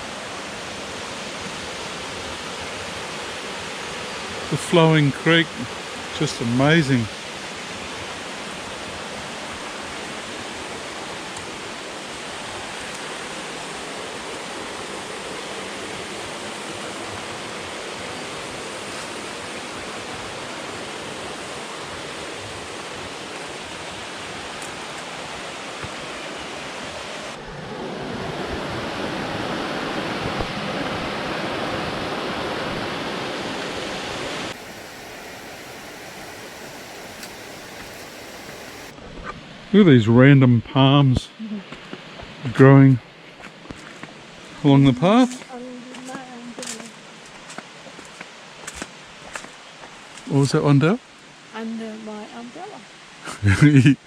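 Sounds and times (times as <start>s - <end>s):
creek water rushing: 0.0s - 39.9s, 41.3s - 53.8s.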